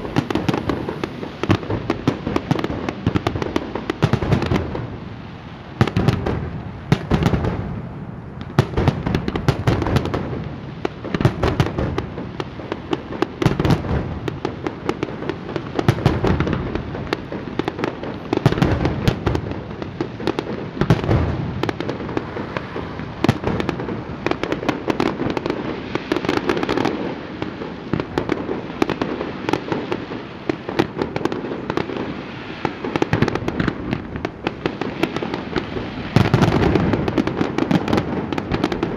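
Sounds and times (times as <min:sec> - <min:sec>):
heavy firework booms: 0:00.0 - 0:05.0, 0:05.8 - 0:38.9
fireworks bangs and crackles: 0:00.0 - 0:38.9.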